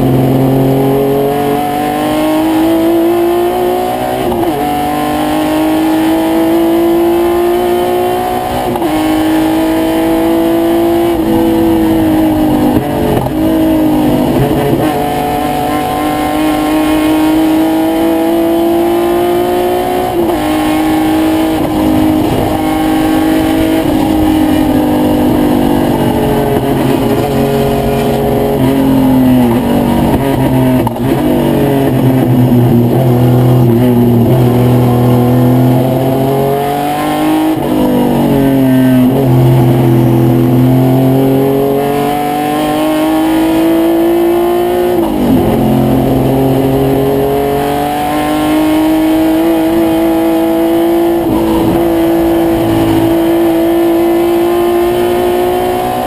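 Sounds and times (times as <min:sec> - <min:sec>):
race car engine at speed: 0:00.0 - 0:56.0.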